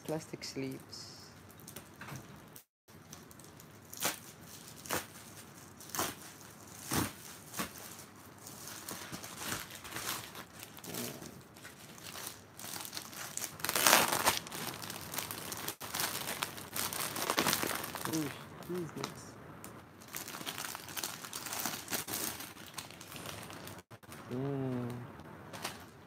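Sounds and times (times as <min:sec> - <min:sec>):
plastic sleeves crinkling: 0:01.4 - 0:19.2, 0:20.0 - 0:24.9.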